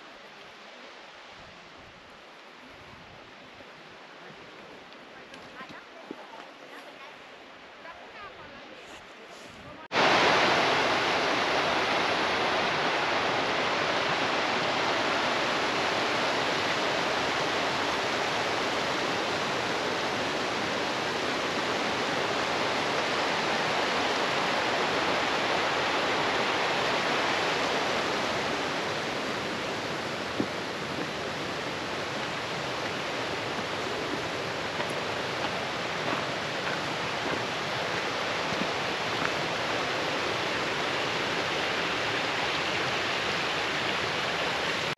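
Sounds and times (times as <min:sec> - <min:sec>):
flowing water rushing: 0:00.0 - 0:44.9.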